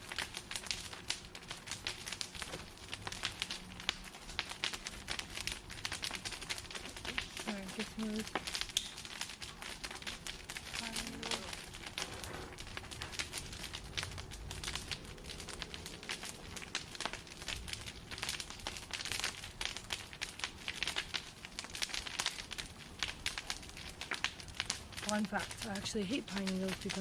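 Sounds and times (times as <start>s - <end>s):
fire crackling and popping: 0.0s - 27.0s.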